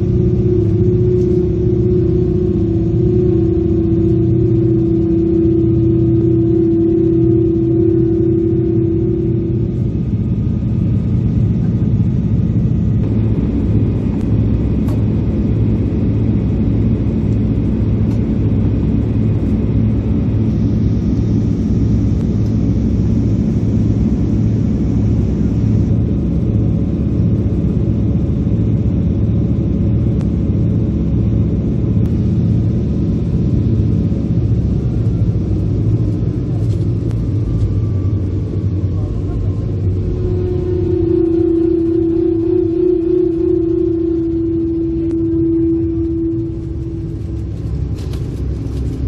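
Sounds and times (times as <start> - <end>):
boat diesel engines droning: 0.0 - 49.0.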